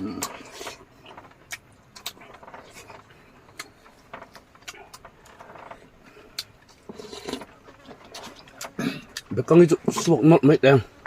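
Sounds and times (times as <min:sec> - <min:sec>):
food chewing crunches: 0:00.0 - 0:10.2.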